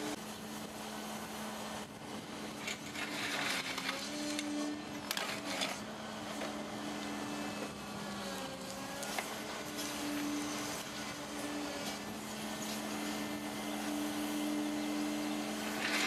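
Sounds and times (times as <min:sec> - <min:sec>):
excavator diesel engine humming: 0:00.0 - 0:16.0.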